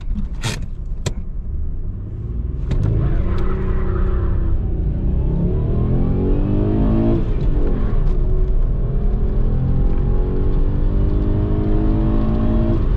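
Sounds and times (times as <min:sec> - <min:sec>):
car engine accelerating hard: 0:02.1 - 0:12.9.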